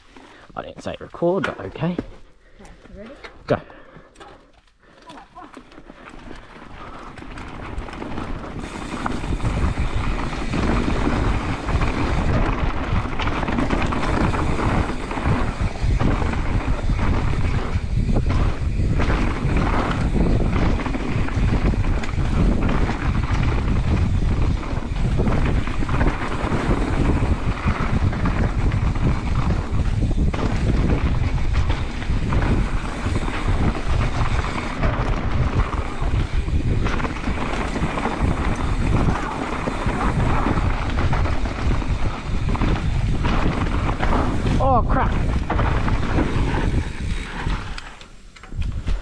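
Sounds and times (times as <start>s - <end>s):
bike rumbling over rough ground: 4.8s - 49.0s
wind buffeting microphone: 6.8s - 49.0s.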